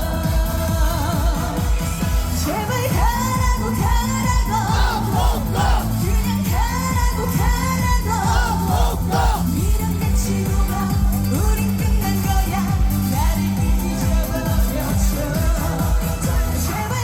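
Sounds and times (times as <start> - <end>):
pop song with singer: 0.0 - 17.0.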